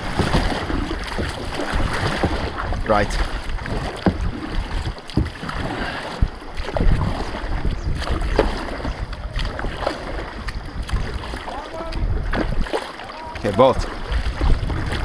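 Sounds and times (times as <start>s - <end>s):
kayak paddles splashing in water: 0.0s - 15.0s
wind buffeting microphone: 0.0s - 15.0s.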